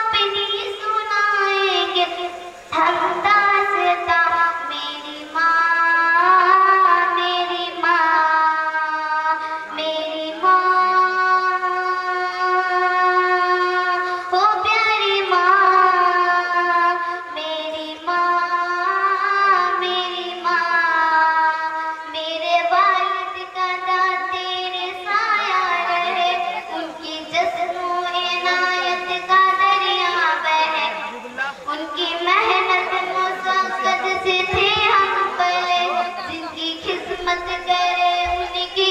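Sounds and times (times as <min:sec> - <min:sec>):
girl singing into a microphone: 0:00.0 - 0:38.9.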